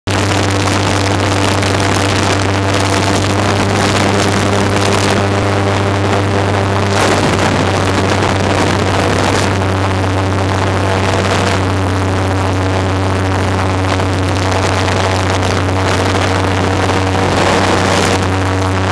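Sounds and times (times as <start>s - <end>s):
airboat engine drone: 0.0s - 18.9s.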